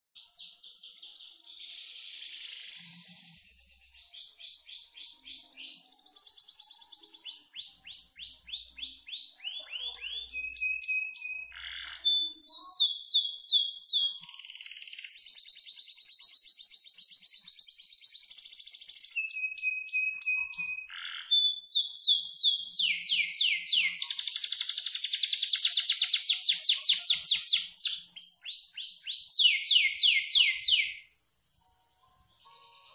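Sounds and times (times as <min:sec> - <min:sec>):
canary singing: 0:00.2 - 0:32.9.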